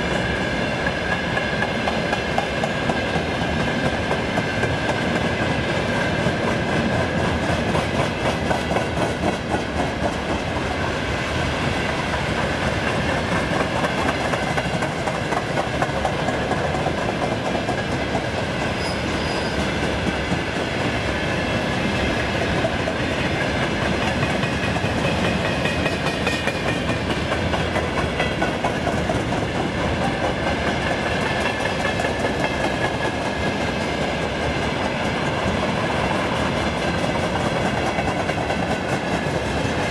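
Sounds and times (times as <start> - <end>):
high whine of wheels on rail: 0.0 - 39.9
train wheels clattering over joints: 0.0 - 39.9.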